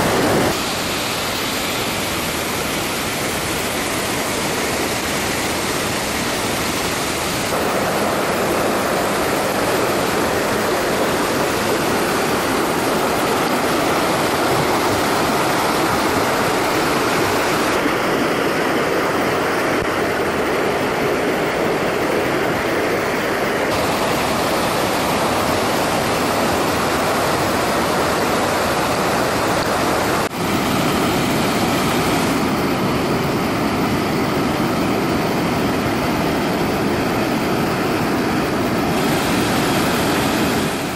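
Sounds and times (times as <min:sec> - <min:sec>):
whitewater rushing over rocks: 0:00.0 - 0:40.9.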